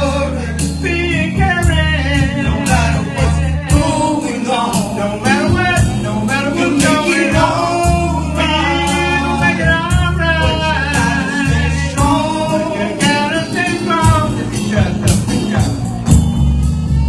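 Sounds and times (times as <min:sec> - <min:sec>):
blues gospel band playing: 0:00.0 - 0:17.0
lead singer: 0:00.0 - 0:17.0.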